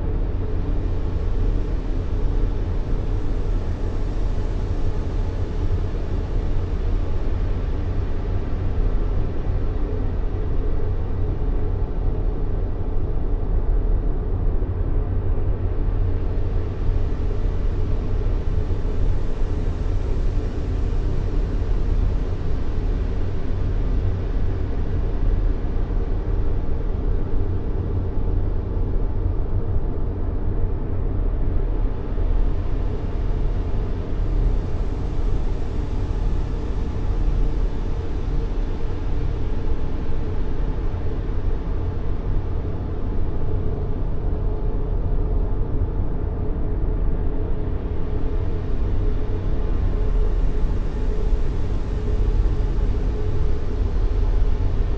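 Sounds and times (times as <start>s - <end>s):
low rumbling white noise: 0.0s - 54.9s.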